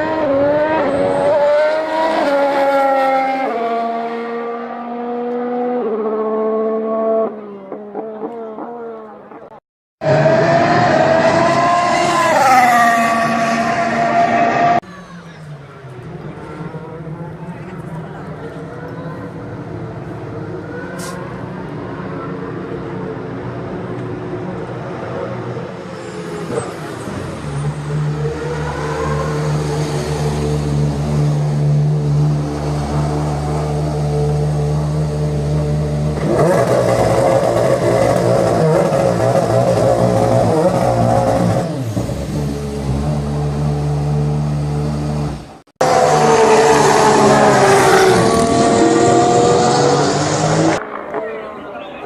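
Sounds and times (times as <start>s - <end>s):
racing car engine downshifting: 0.0s - 14.8s, 21.6s - 51.8s.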